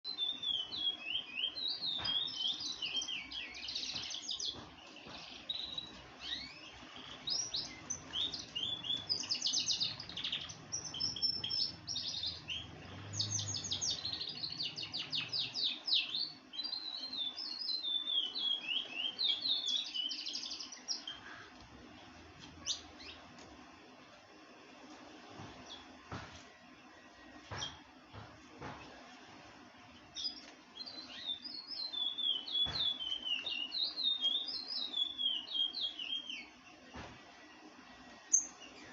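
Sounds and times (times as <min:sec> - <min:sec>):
songbirds singing: 0:00.1 - 0:38.9.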